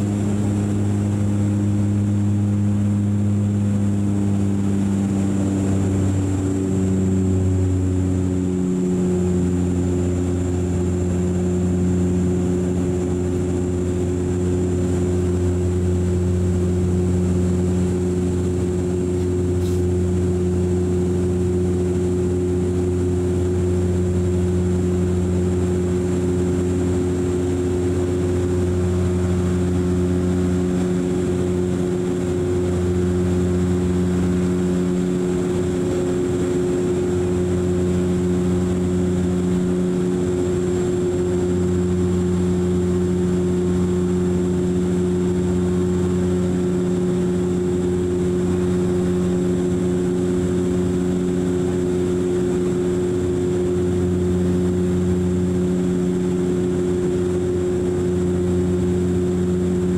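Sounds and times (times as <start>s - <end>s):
turboprop cabin drone: 0.0s - 59.9s.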